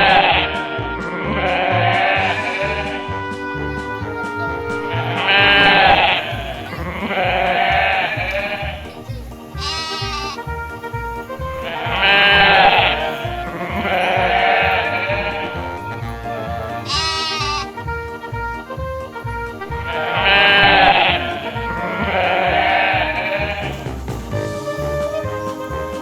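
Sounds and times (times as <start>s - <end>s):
wavering bleats: 0.0s - 24.0s
background music with beat: 0.0s - 26.0s.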